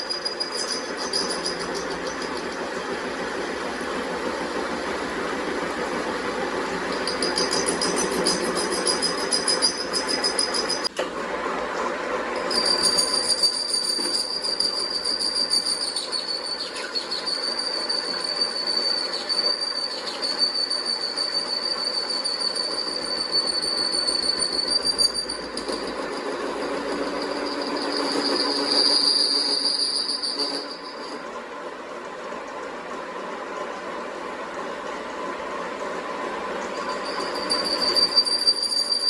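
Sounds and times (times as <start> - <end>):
high-pitched metallic squeal: 0.0 - 10.9, 12.3 - 31.5, 36.6 - 39.0
rough machine noise: 0.0 - 39.0.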